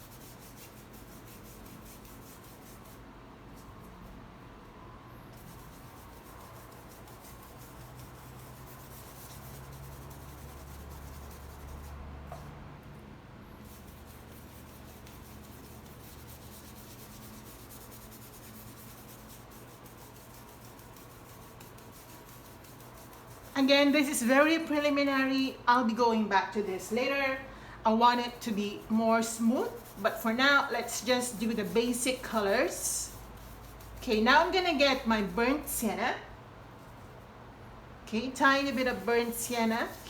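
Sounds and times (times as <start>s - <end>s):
brush strokes rubbing paint: 0.0s - 4.0s, 5.3s - 12.5s, 13.5s - 25.1s, 28.0s - 36.0s, 38.3s - 40.0s
low steady hum: 0.0s - 40.0s.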